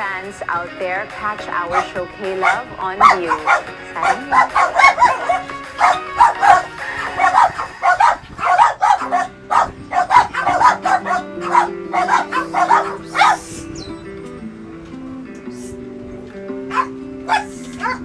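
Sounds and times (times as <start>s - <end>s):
sustained low notes: 0.9s - 17.9s
high yapping calls in music: 1.1s - 18.0s.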